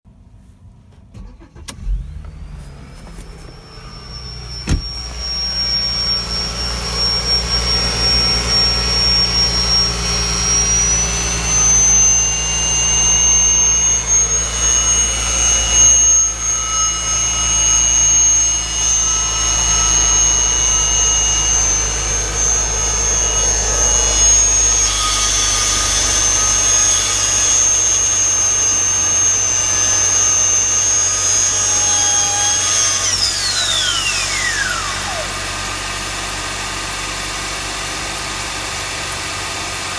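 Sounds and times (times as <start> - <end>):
car engine starting and idling: 0.2 - 39.9
high-pitched whistle: 3.3 - 35.8.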